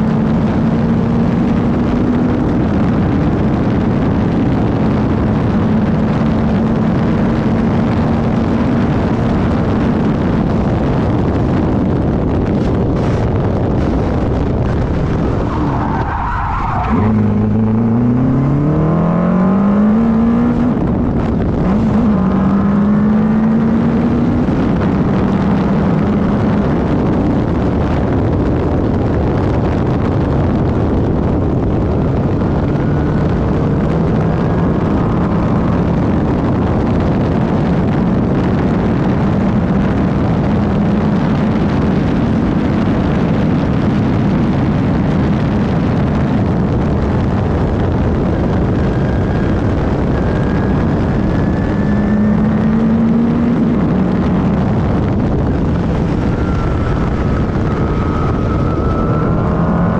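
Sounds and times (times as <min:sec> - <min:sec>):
racing car engine roaring: 0:00.0 - 0:59.9.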